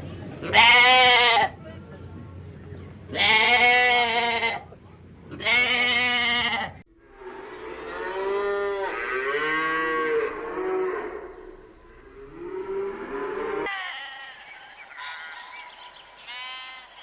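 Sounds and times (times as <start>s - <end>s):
farm animals calling: 0.4s - 17.0s.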